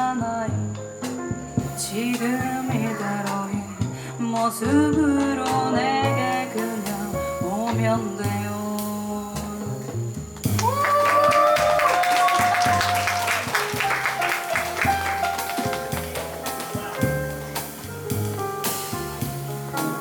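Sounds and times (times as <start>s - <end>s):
double bass notes: 0.0s - 11.2s, 12.6s - 20.0s
drum kit and cymbals: 0.0s - 20.0s
jazz piano: 0.0s - 20.0s.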